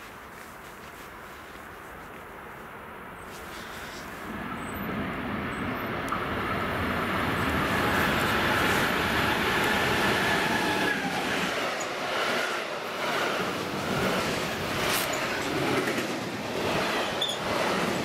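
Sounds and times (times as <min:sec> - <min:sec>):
train wheels rumbling on rail: 0:03.3 - 0:18.0.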